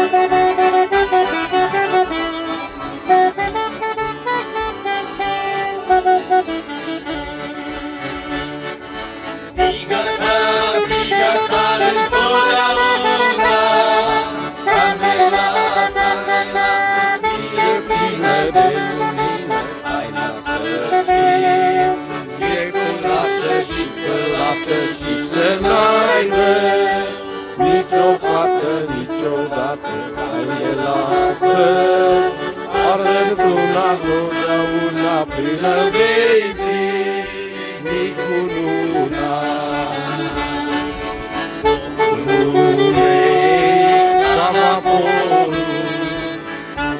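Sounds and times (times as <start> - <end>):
accordion playing folk tune: 0.0 - 46.9.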